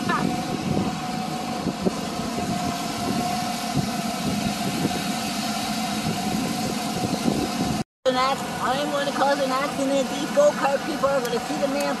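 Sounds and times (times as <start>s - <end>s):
go-kart engines droning: 0.0s - 12.0s.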